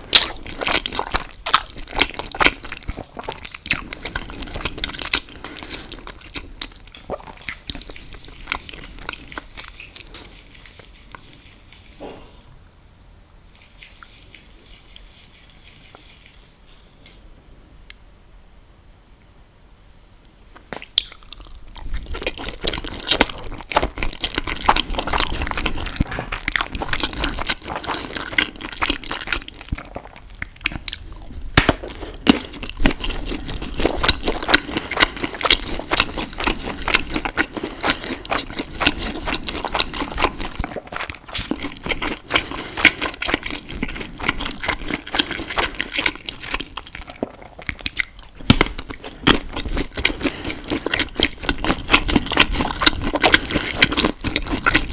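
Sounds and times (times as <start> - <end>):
wet sticky chewing: 0.0 - 12.6, 20.6 - 54.9.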